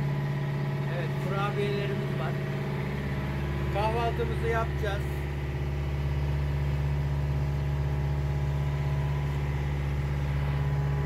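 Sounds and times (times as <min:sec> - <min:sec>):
motor boat engine humming: 0:00.0 - 0:11.0.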